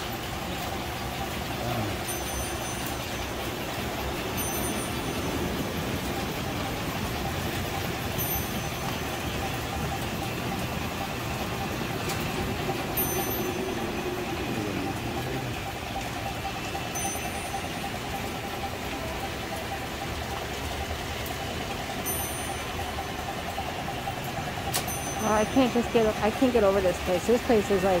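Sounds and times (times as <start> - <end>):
model trains whirring: 0.0 - 28.0.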